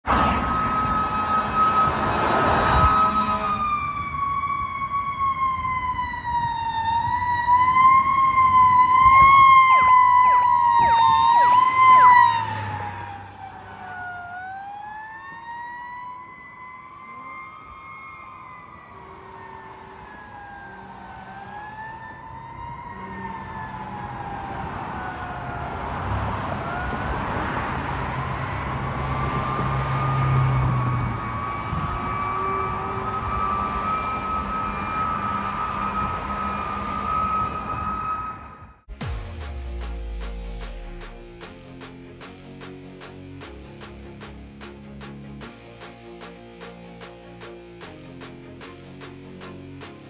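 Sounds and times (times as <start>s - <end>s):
fire engine siren wailing: 0.0s - 38.8s, 43.1s - 50.0s
siren chirps: 0.1s - 50.0s.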